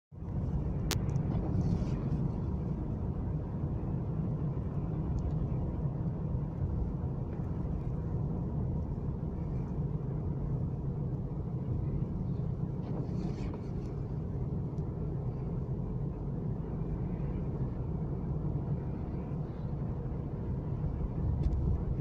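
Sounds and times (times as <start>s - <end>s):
car road and engine rumble: 0.1s - 22.0s.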